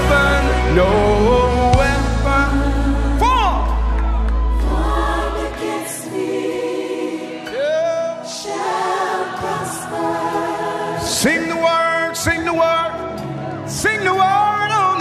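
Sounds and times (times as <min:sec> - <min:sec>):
choir singing: 0:00.0 - 0:14.4.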